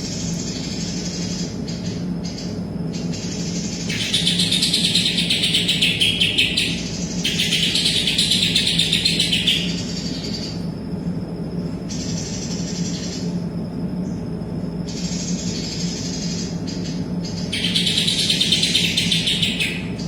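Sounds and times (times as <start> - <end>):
bird singing rapid chattering phrases: 0.1 - 10.6, 11.9 - 13.4, 14.9 - 20.0.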